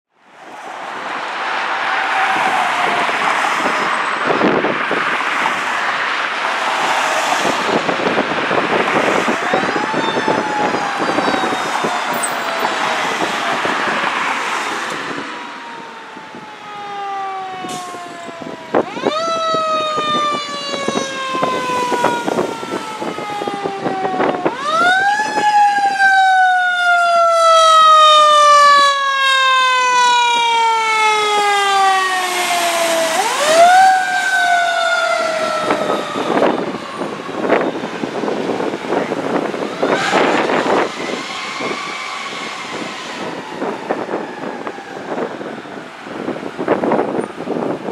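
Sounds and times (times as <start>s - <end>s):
traffic noise: 0.1s - 47.9s
fire truck siren: 0.4s - 47.9s.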